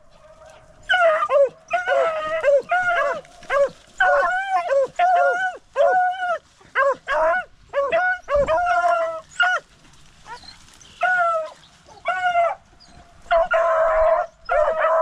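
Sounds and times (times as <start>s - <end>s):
hounds baying: 0.0s - 15.0s
drawn-out dog bawl: 0.4s - 15.0s.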